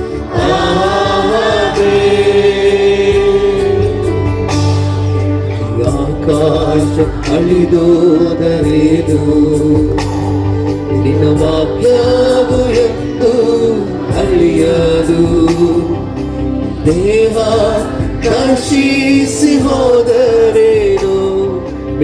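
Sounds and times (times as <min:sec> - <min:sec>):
band accompaniment with beat: 0:00.0 - 0:22.0
choir and congregation singing: 0:00.0 - 0:22.0.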